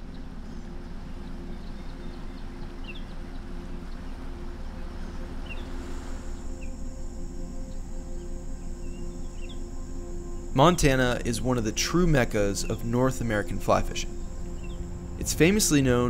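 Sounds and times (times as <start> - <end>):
low background noise: 0.0 - 16.0
small birds chirping: 0.0 - 16.0
high insect buzz: 2.7 - 16.0.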